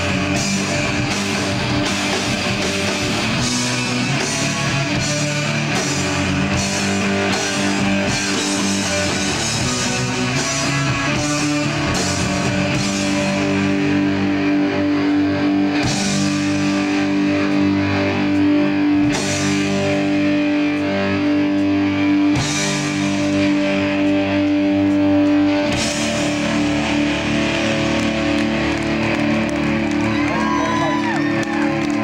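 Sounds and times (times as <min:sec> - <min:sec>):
bass guitar: 0:00.0 - 0:32.0
distorted electric guitar chords: 0:00.0 - 0:32.0.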